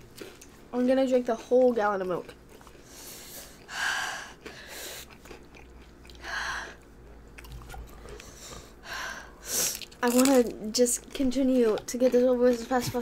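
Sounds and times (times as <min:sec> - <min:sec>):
chewing noodles: 0:01.2 - 0:08.8, 0:09.7 - 0:13.0.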